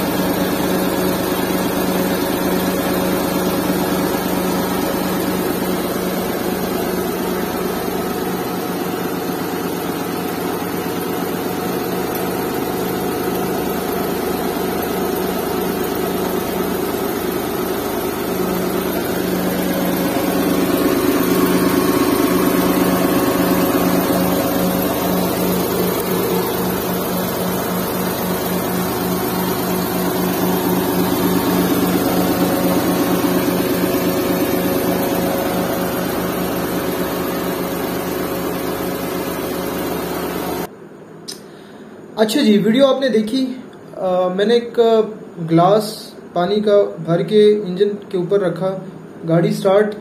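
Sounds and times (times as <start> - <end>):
car engine idling: 0.0 - 40.7.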